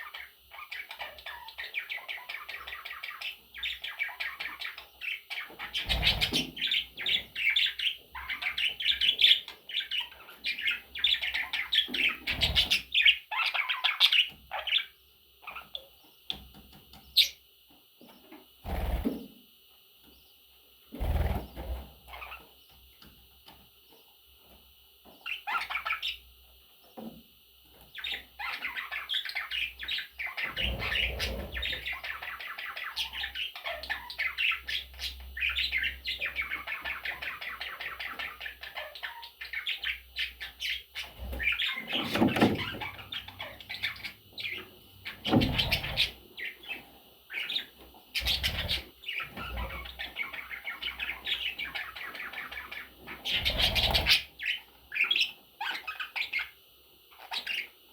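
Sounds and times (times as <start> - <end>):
budgerigars chirping and warbling: 0.0 - 17.4, 18.2 - 19.2, 20.9 - 22.8, 23.9 - 26.3, 27.7 - 57.8.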